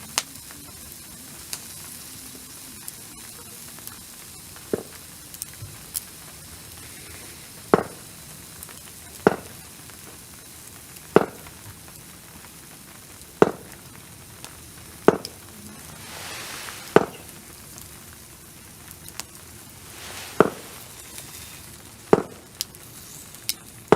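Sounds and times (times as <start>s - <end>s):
food sizzling on a grill: 0.0s - 23.9s.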